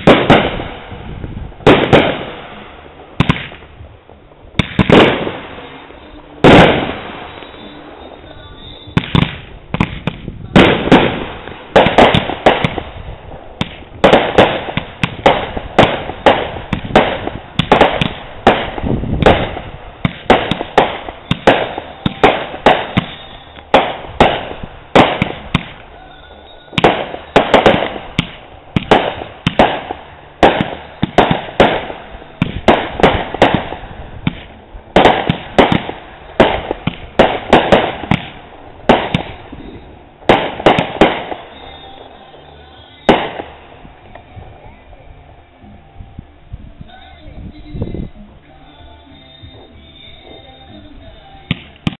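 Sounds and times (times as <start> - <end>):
fireworks sharp bangs: 0.0 - 45.4, 46.8 - 51.9.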